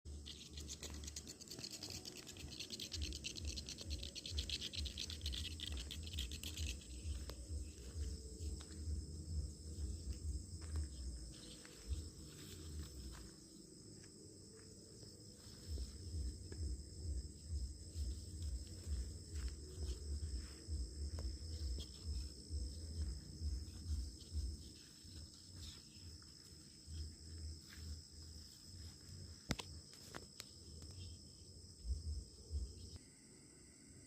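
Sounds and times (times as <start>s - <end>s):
insect buzzing chorus: 0.1s - 34.0s
insect high-pitched trilling: 0.1s - 34.0s.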